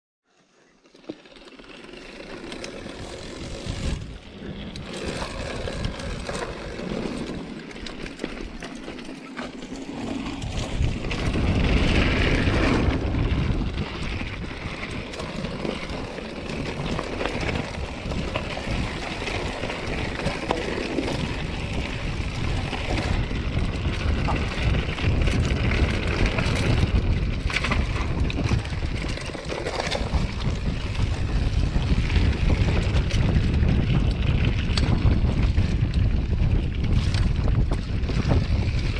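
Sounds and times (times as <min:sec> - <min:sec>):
wind buffeting microphone: 0:02.8 - 0:07.4, 0:09.9 - 0:38.9
bike rattling and knocking: 0:04.8 - 0:38.9.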